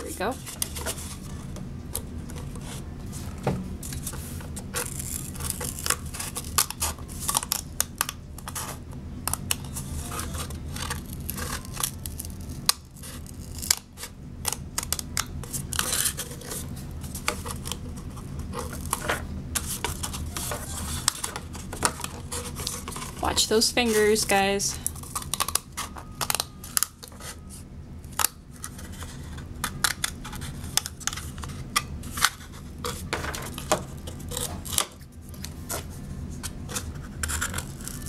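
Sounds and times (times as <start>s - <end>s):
scissors cutting paper cup: 4.7s - 27.5s, 28.2s - 35.8s, 36.7s - 38.0s.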